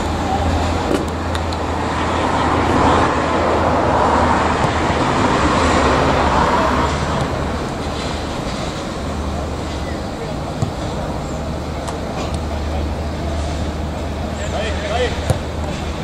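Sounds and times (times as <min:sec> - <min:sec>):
passing vehicle: 0:00.0 - 0:16.0.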